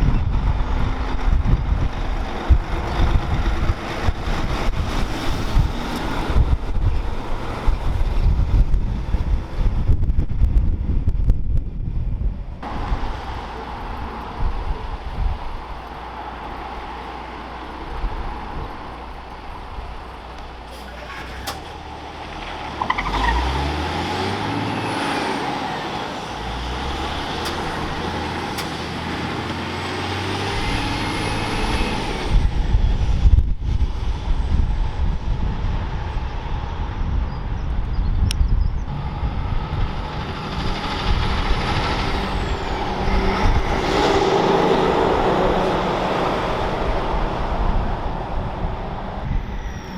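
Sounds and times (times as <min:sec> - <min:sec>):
high whine gliding: 0:00.0 - 0:22.1, 0:24.5 - 0:49.9
diesel trucks driving past: 0:00.0 - 0:49.9.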